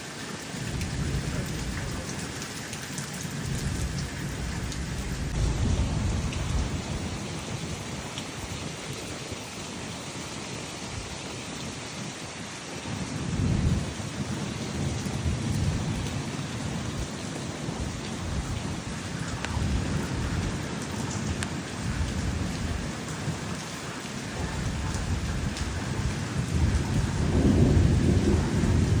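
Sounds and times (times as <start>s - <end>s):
steady rain falling: 0.0s - 29.0s
thunder rumbling: 0.6s - 9.0s, 13.1s - 29.0s.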